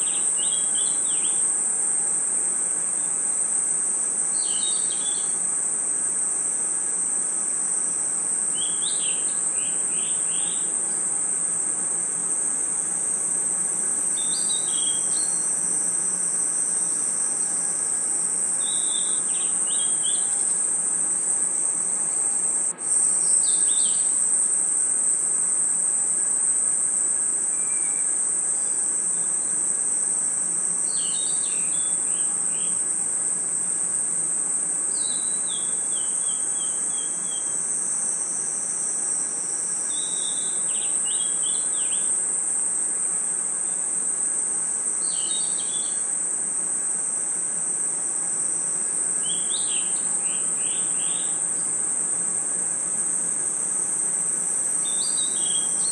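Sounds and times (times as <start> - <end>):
crickets trilling: 0.0 - 55.9
insect chirping calls: 0.0 - 55.9.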